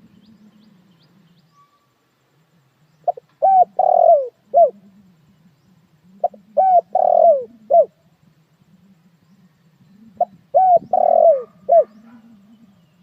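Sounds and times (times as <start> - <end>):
dove cooing: 0.0 - 1.4, 3.0 - 13.0.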